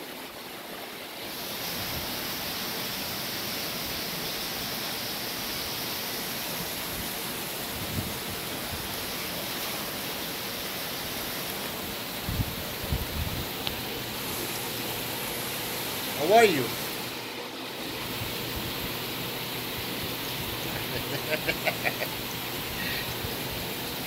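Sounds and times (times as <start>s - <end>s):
water rushing through plumbing: 0.1s - 24.0s.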